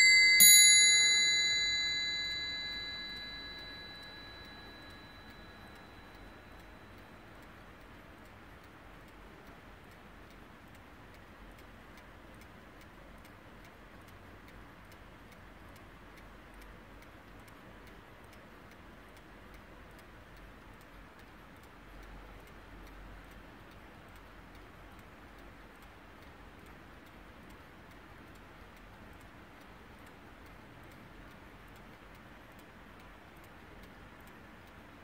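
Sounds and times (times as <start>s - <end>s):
clock ticking faintly: 0.0s - 35.0s.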